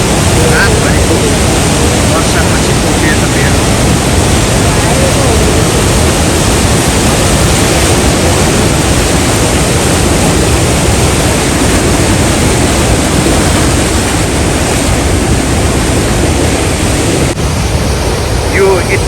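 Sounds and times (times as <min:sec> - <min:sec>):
floodwater rushing through gorge: 0:00.0 - 0:19.0.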